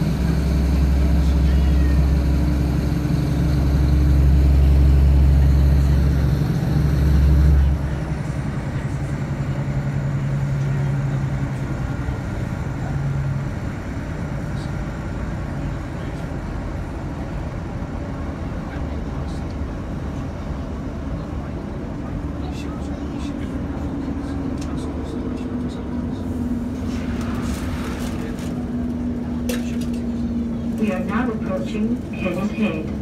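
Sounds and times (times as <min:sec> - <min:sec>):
diesel engine droning: 0:00.0 - 0:33.0
train wheels rumbling on rails: 0:00.0 - 0:33.0.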